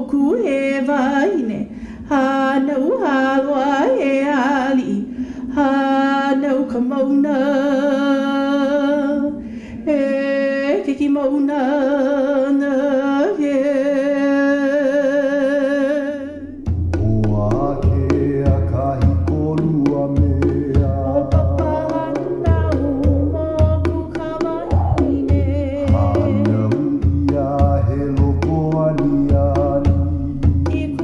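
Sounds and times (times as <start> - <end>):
woman chanting: 0.0 - 31.0.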